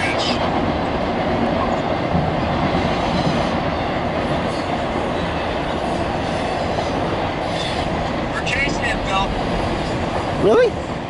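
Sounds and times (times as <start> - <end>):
train wheels rumbling on bridge: 0.0 - 11.0.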